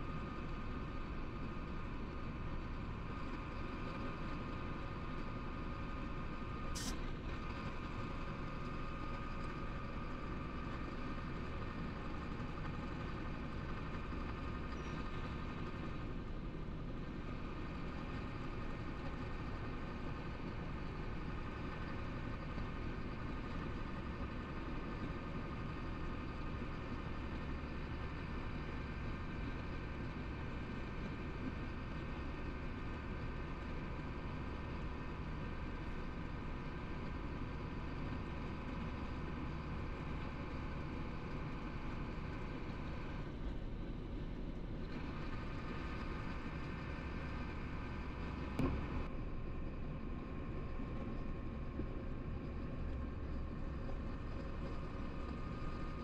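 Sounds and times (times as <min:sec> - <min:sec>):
truck engine and road drone: 0:00.0 - 0:56.0.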